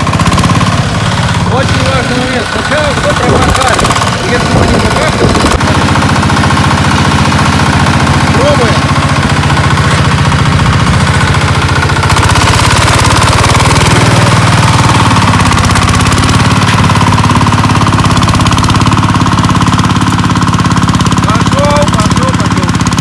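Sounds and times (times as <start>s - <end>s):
diesel tractor engine under load: 0.0s - 23.0s.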